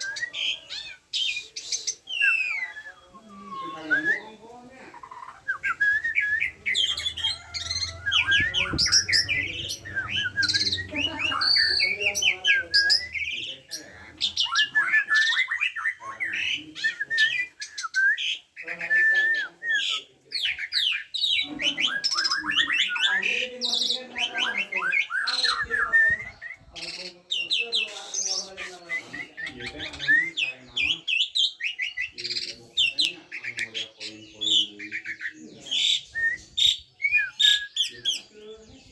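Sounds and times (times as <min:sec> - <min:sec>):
starling singing varied song: 0:00.0 - 0:38.9.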